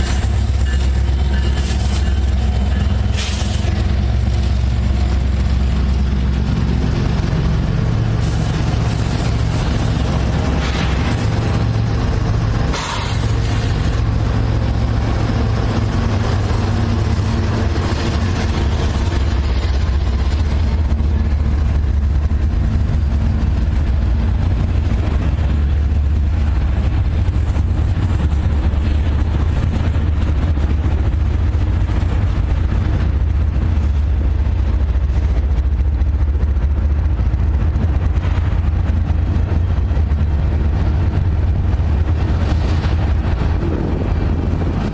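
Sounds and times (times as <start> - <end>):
diesel train rumbling past: 0.0 - 44.9.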